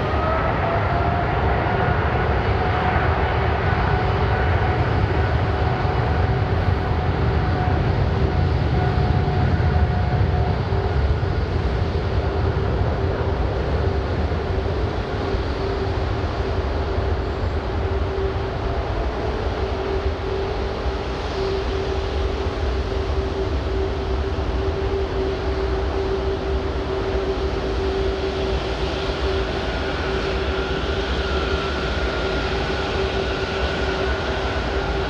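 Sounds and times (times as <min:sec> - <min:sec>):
jet engine whine: 0:00.0 - 0:35.0
jet engines rumbling: 0:00.0 - 0:35.0.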